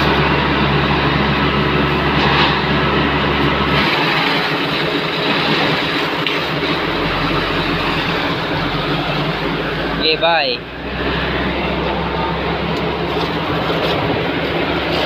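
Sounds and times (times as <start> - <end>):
concrete mixer truck running: 0.0 - 15.0.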